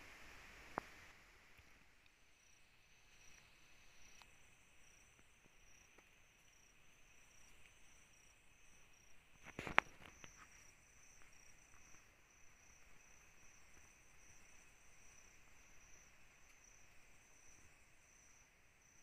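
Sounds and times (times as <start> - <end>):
insects trilling: 1.6 - 19.0.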